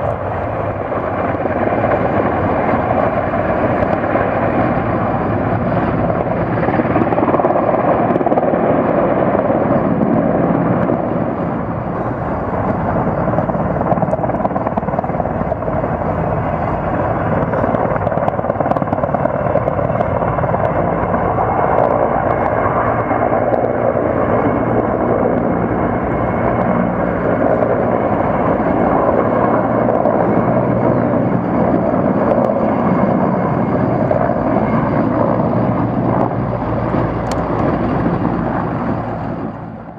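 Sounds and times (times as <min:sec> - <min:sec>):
helicopter rotor and engines: 0:00.0 - 0:39.9.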